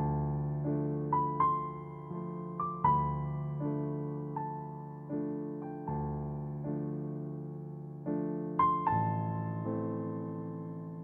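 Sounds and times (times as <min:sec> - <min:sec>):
gentle piano piece: 0:00.0 - 0:11.0.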